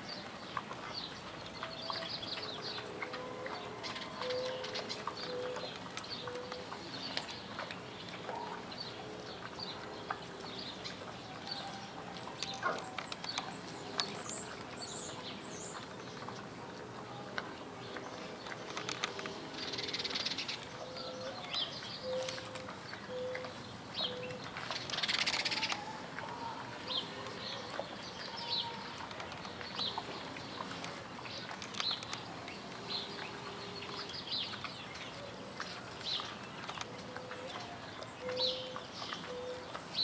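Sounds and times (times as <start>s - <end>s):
hogs rooting in dirt and straw: 0.0s - 40.0s
small birds chirping: 0.0s - 40.0s.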